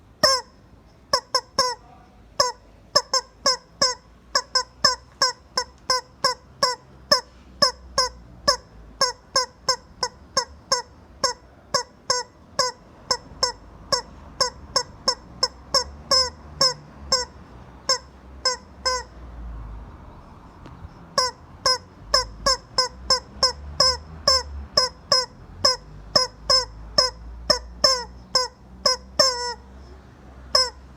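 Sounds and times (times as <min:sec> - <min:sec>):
rubber chicken toy squawking: 0:00.2 - 0:19.2, 0:20.7 - 0:30.9.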